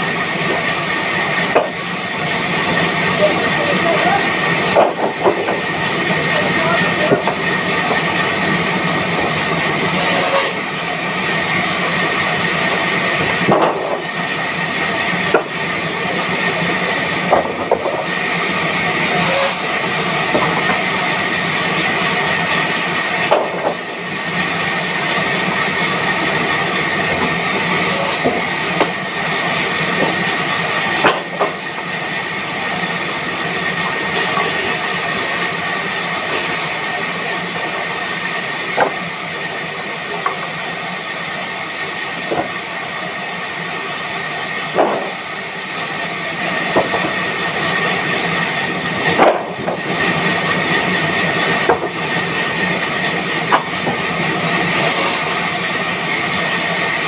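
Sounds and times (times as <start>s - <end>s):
band sawmill cutting wood: 0.0s - 57.0s.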